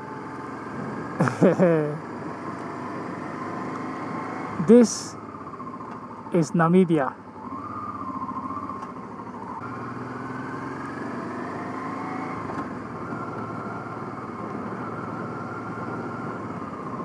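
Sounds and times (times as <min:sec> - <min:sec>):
motorcycle engine accelerating: 0:00.0 - 0:06.3, 0:07.1 - 0:17.0
wind and road noise: 0:00.0 - 0:17.0.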